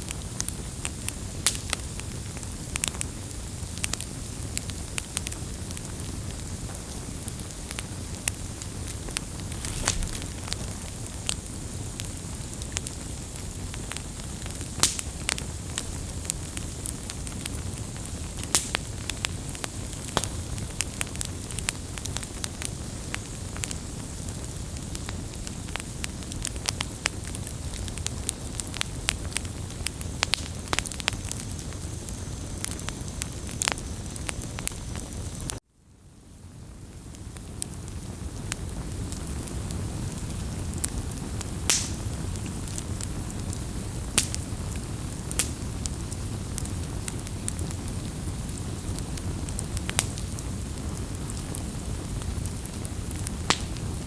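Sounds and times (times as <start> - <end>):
campfire crackling and popping: 0.0 - 35.6, 36.3 - 54.0
low rumble of flames: 0.0 - 54.0.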